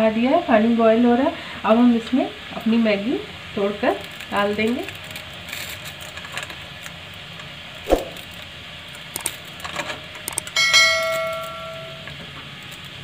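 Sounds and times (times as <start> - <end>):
water boiling in a pan: 0.2 - 10.5, 12.1 - 13.0.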